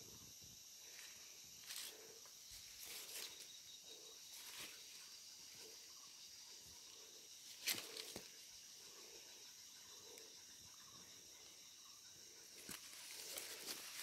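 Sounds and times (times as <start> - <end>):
insects humming: 0.0 - 14.0.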